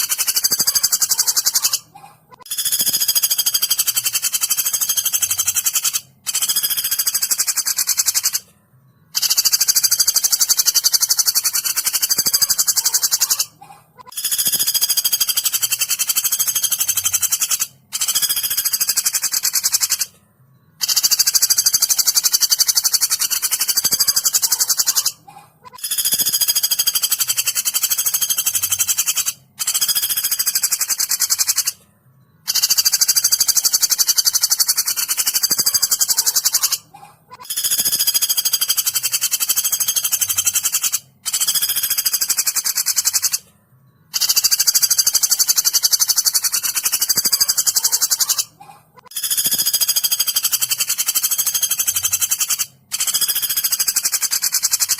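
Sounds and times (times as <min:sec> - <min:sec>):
woodpecker rattling trill: 0:00.0 - 0:54.9.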